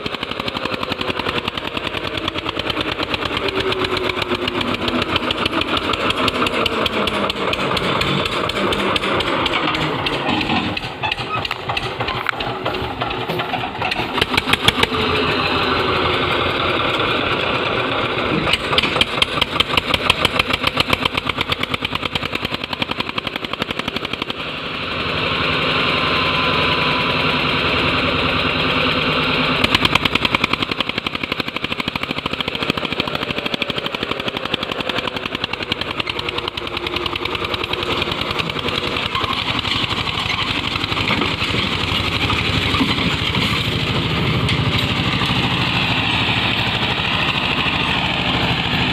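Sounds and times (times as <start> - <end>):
tractor diesel engine chugging: 0.0 - 48.9.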